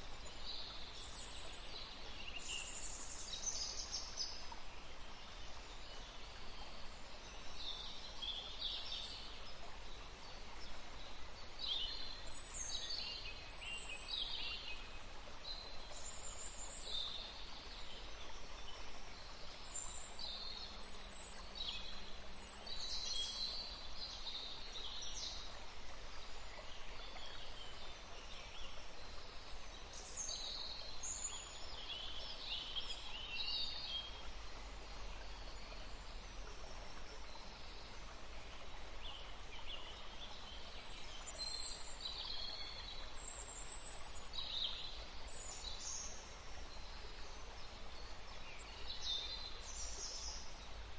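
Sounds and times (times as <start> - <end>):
outdoor ambience hiss: 0.0 - 50.9.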